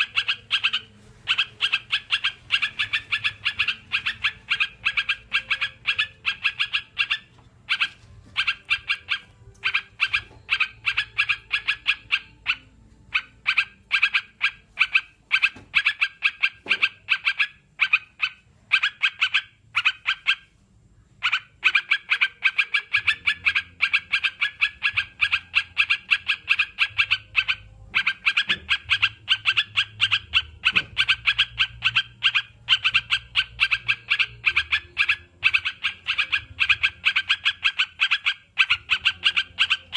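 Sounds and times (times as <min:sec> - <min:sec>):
bird chattering: 0:00.0 - 0:20.6, 0:21.2 - 0:39.9.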